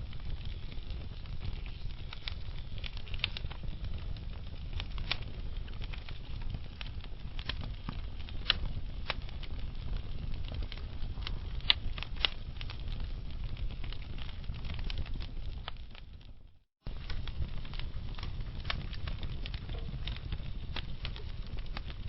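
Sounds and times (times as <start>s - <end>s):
fire crackling and popping: 0.0s - 22.0s
rumble of fire flames: 0.0s - 22.0s.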